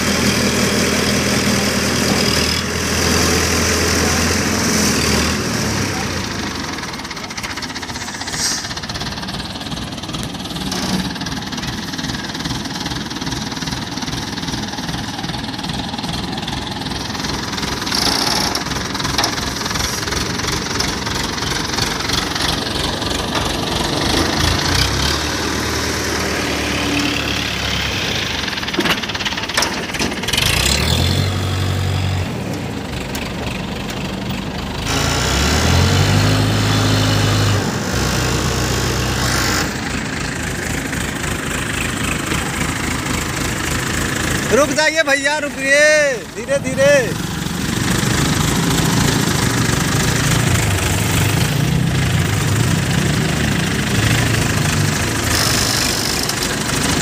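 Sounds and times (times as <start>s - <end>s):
crane diesel engine clattering: 0.0s - 57.0s.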